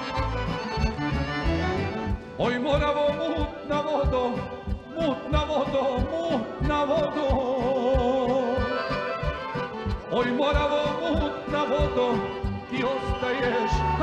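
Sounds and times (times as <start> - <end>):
band playing steady beat: 0.0 - 14.0
man singing: 2.2 - 14.0.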